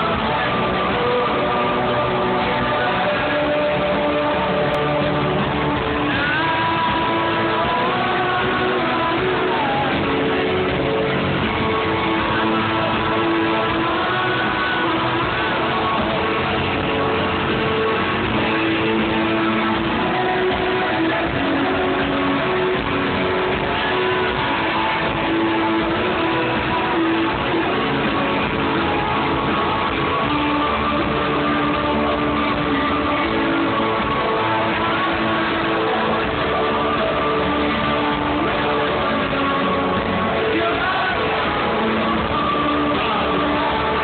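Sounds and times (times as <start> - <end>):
live rock band playing: 0.0 - 44.0.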